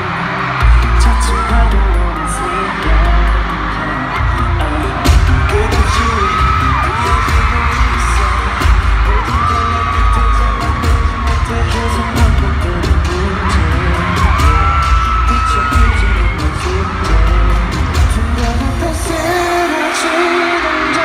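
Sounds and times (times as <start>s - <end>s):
live pop concert music: 0.0s - 21.0s.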